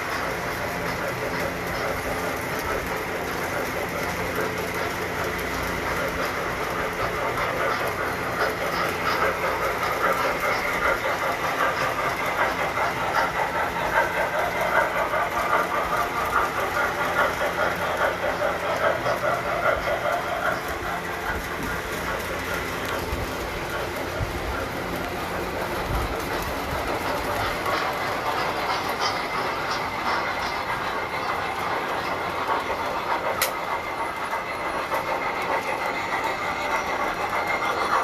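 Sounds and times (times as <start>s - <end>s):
model train rumbling on track: 0.0s - 38.0s
rhythmic clicking of train: 0.0s - 38.0s.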